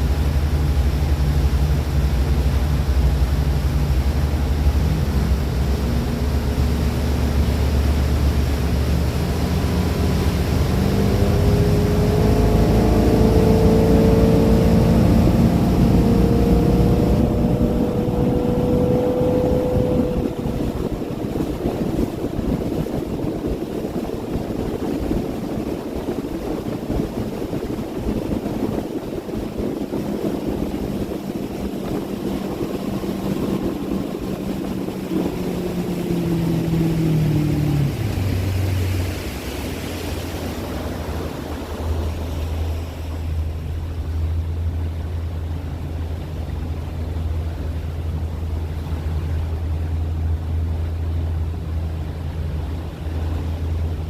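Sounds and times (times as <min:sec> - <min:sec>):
motorboat engine running: 0:00.0 - 0:54.0
water rushing: 0:00.0 - 0:54.0
wind: 0:00.0 - 0:54.0.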